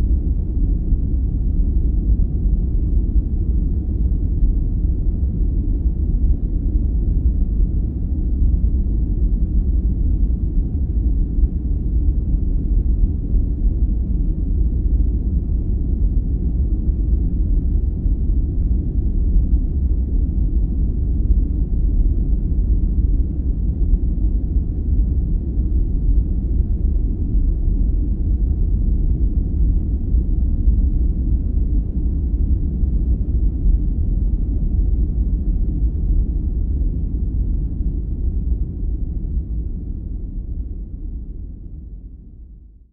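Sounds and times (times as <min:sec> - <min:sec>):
deep rumbling brown noise: 0:00.0 - 0:42.9.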